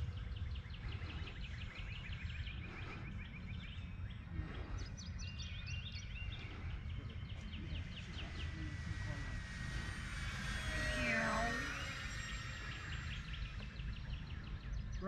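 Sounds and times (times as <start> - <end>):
birds singing: 0.0 - 15.0
low wind rumble: 0.0 - 15.0.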